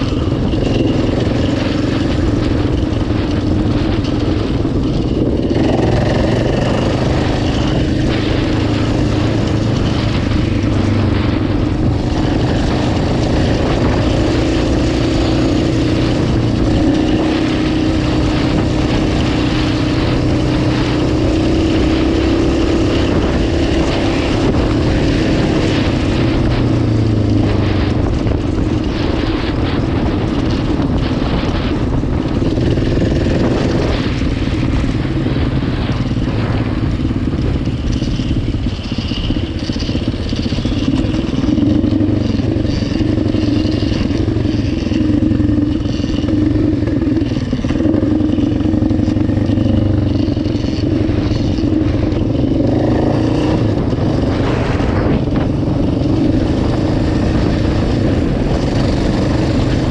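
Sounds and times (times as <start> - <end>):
atv engine running: 0.0 - 59.9
rushing wind: 0.0 - 59.9
terrain noise: 0.0 - 59.9.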